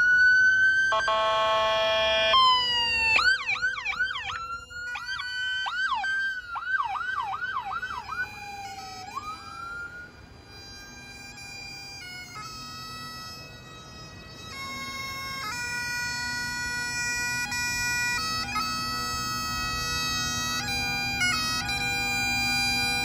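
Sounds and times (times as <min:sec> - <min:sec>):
police siren: 0:00.0 - 0:23.0.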